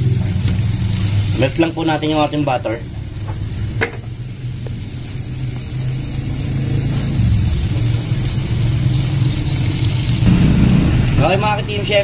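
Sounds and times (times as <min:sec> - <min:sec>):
steady low rumble: 0:00.0 - 0:11.8
butter sizzling in a pot: 0:00.0 - 0:12.0.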